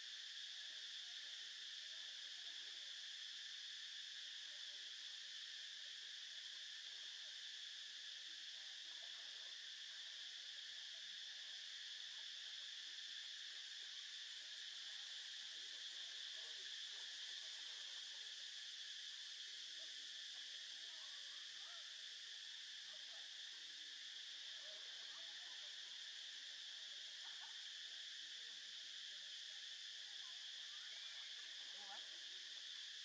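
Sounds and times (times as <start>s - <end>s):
insect chorus droning: 0.0s - 33.0s.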